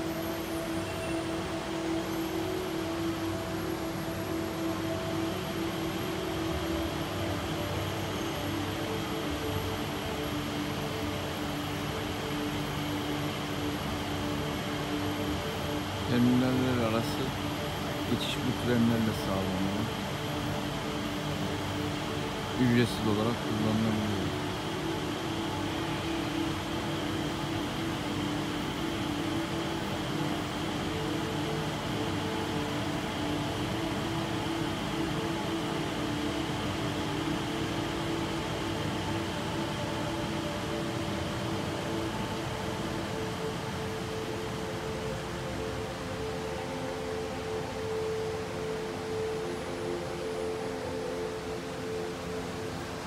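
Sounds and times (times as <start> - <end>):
low hum of indoor atrium: 0.0 - 53.0.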